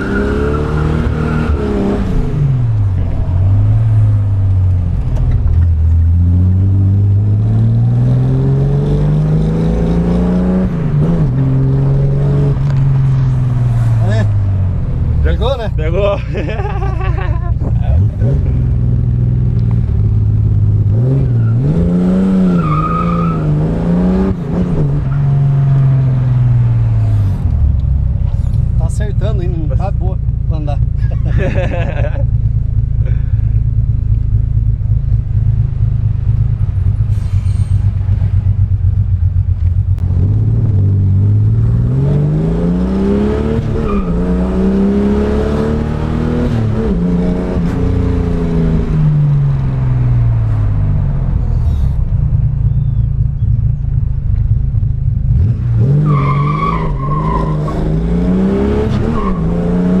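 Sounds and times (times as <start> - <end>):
car engine idling and revving: 0.0 - 60.0.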